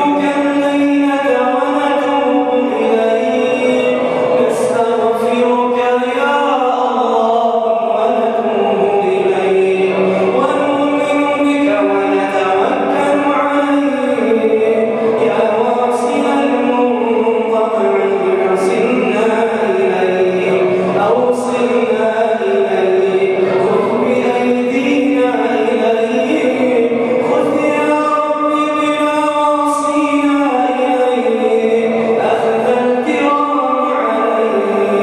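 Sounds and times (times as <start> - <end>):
man chanting into a microphone: 0.0 - 35.0.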